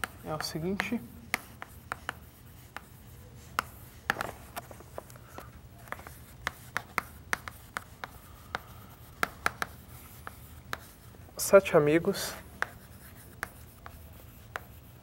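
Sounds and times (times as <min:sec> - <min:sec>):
chalk tapping and scratching: 0:00.0 - 0:15.0.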